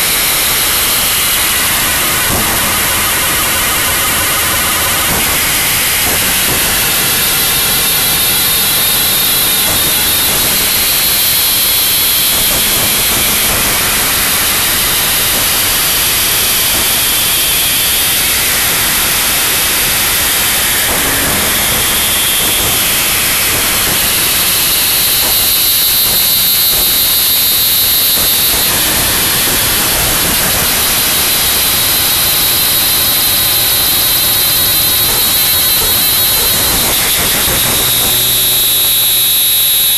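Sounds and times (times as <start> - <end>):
static hiss noise music: 0.0 - 39.9.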